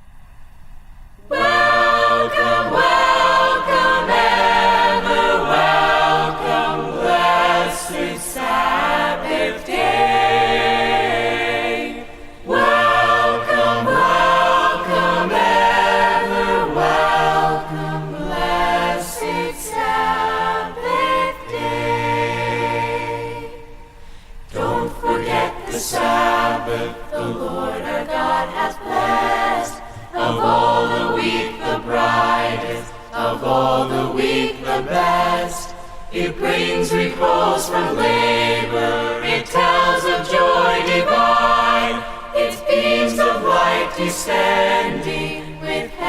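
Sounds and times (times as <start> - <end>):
choir singing a hymn: 1.2 - 46.0.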